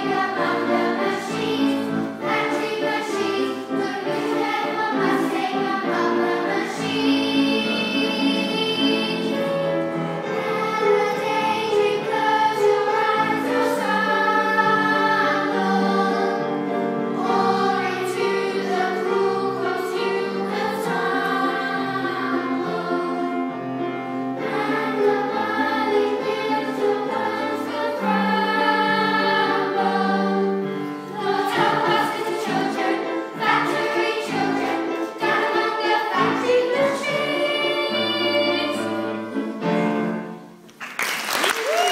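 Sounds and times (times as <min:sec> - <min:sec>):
children's choir singing: 0:00.0 - 0:40.6
musical accompaniment: 0:00.0 - 0:41.8.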